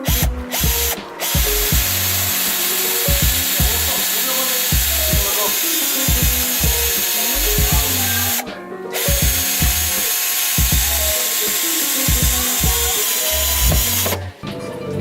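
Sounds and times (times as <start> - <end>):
instrumental hip-hop beat: 0.0 - 15.0.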